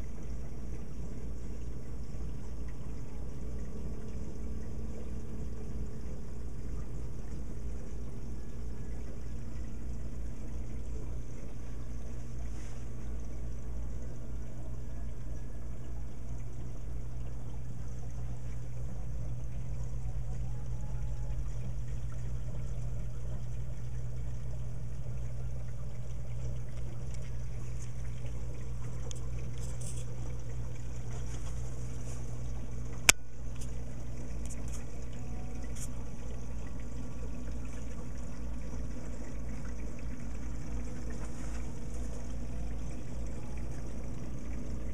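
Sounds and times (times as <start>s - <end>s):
low pump hum: 0.0s - 44.9s
water trickling and splashing: 0.0s - 44.9s.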